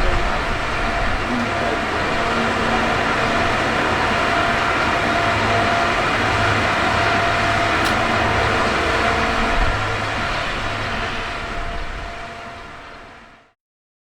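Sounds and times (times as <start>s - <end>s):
faint hum: 0.0s - 13.4s
fan rushing noise: 0.0s - 13.5s.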